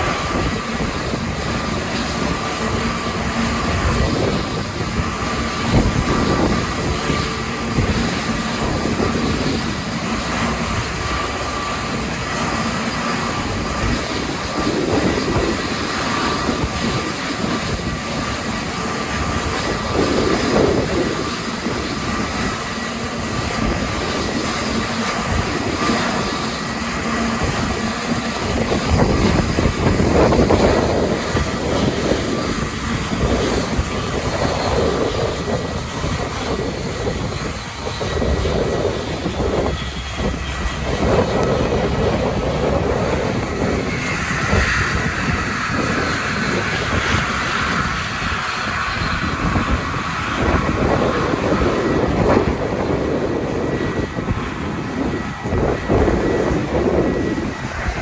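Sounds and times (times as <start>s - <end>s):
higher engine whine: 0.0s - 58.0s
jet engines rumbling and whining: 0.0s - 58.0s
wind buffeting microphone: 0.0s - 58.0s.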